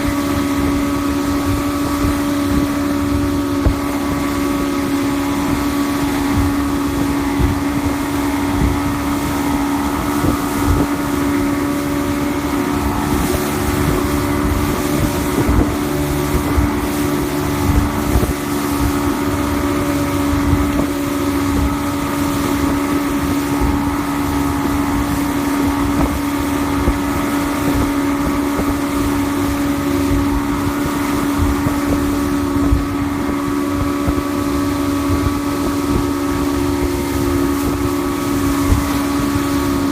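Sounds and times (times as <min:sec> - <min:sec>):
outboard motor running steadily: 0:00.0 - 0:39.9
wind buffeting microphone: 0:00.0 - 0:39.9.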